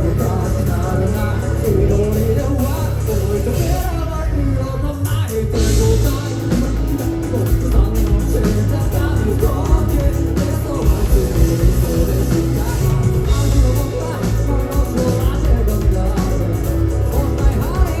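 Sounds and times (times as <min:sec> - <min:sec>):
drums: 0:00.0 - 0:18.0
guitar: 0:00.0 - 0:18.0
person singing: 0:00.0 - 0:18.0.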